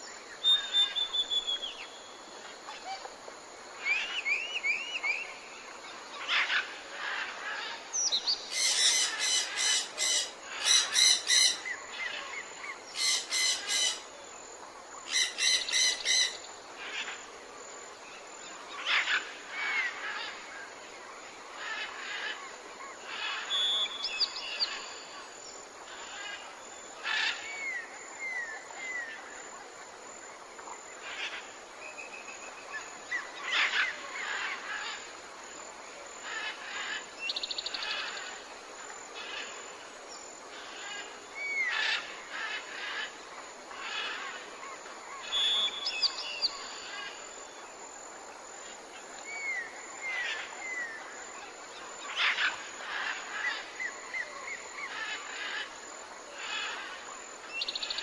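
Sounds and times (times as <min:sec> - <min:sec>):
songbirds singing and calling: 0:00.0 - 0:03.1, 0:03.7 - 0:14.2, 0:15.0 - 0:17.2, 0:18.2 - 0:29.5, 0:30.6 - 0:35.2, 0:36.2 - 0:47.8, 0:48.6 - 0:58.0
faint outdoor hiss: 0:00.0 - 0:58.0.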